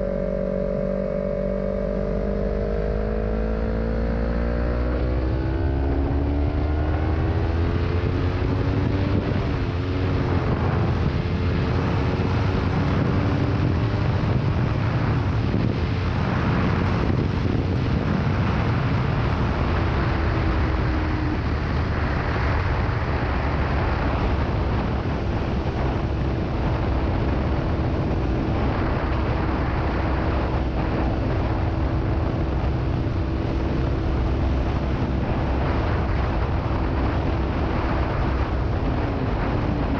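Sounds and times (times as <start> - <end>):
motorcycle engine at speed: 0.0 - 39.9
wind noise on microphone: 0.0 - 39.9.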